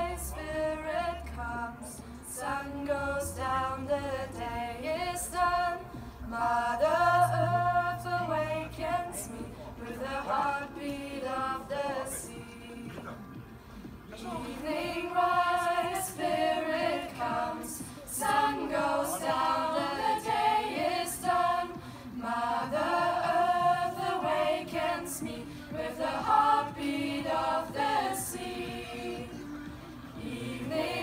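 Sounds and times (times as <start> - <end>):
young choir singing: 0.0 - 13.2, 14.2 - 31.0.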